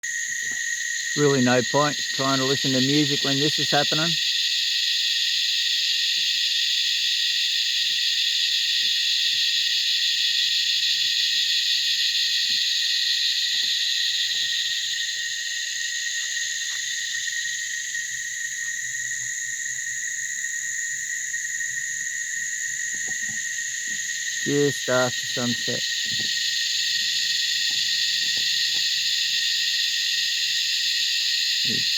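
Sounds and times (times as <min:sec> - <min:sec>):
cicadas droning: 0:00.0 - 0:31.9.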